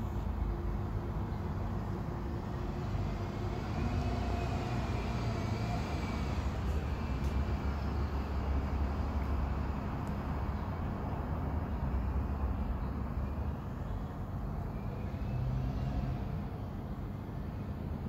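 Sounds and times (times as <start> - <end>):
bus engine rumbling: 0.0 - 18.0.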